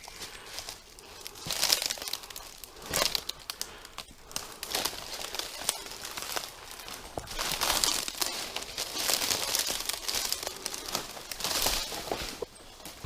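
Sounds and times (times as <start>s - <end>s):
footsteps crunching through leaves: 0.0s - 3.4s, 4.2s - 13.0s.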